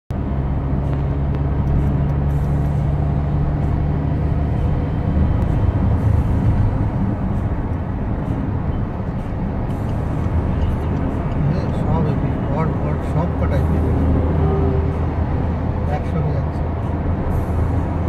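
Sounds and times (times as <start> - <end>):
car engine hum: 0.1 - 18.0.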